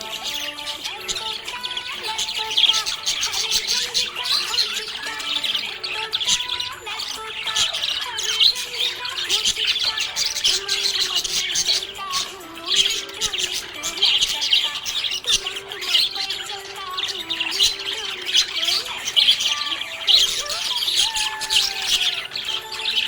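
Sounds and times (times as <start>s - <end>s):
budgies chattering and chirping: 0.0s - 23.0s.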